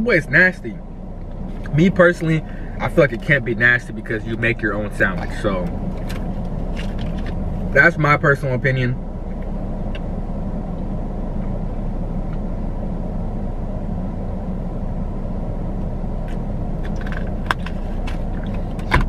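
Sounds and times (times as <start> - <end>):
car engine idling hum: 0.0 - 19.0.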